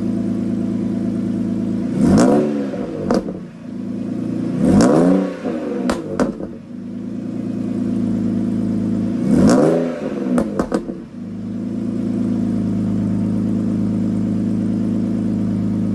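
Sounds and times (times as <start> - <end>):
car engine idling and revving: 0.0 - 15.9.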